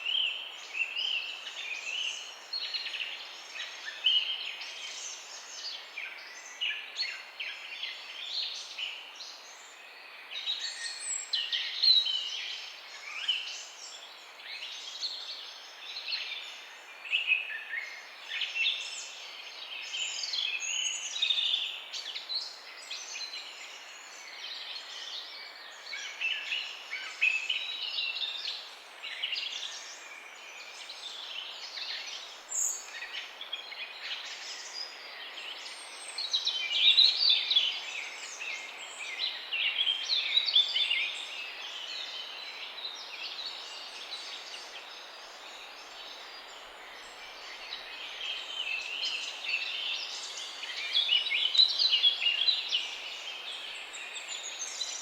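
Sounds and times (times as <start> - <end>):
background hiss: 0.0 - 55.0
songbirds chirping and trilling: 0.0 - 55.0.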